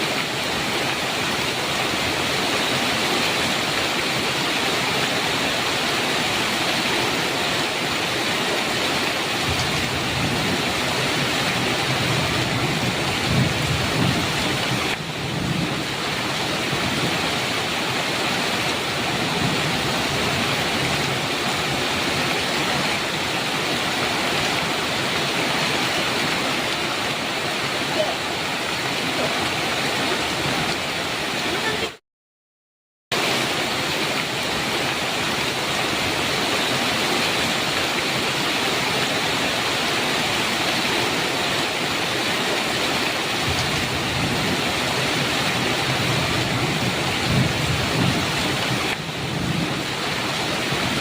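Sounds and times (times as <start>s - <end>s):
heavy rain on metal roof: 0.0s - 32.0s, 33.1s - 51.0s.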